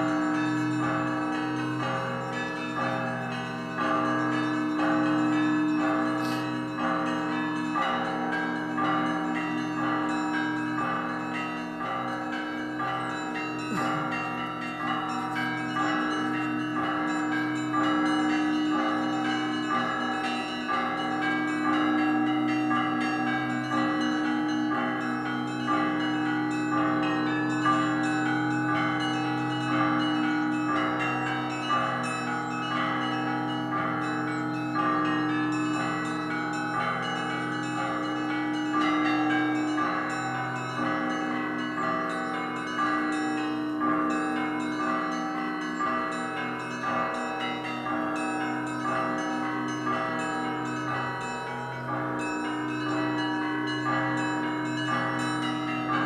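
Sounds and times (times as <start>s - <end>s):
large bells humming: 0.0s - 56.0s
small bells striking: 0.0s - 56.0s.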